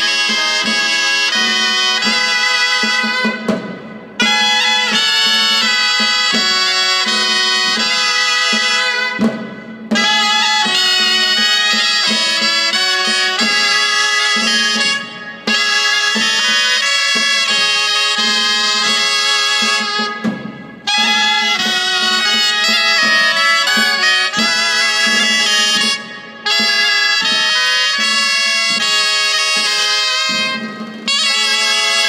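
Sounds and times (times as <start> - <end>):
shawm playing a melody: 0.0 - 32.0.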